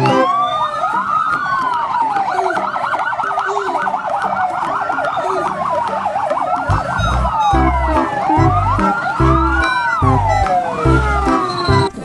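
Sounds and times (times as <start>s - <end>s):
fire engine siren wailing: 0.0s - 12.0s
fire engine siren yelping: 0.0s - 12.0s.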